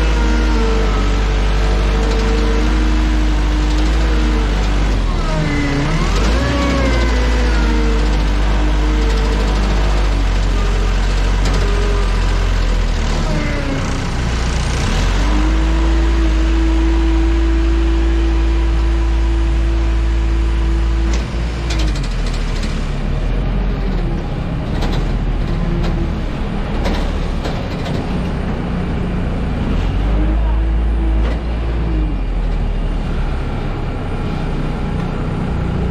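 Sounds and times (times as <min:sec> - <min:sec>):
vehicles low rumble: 0:00.0 - 0:35.9.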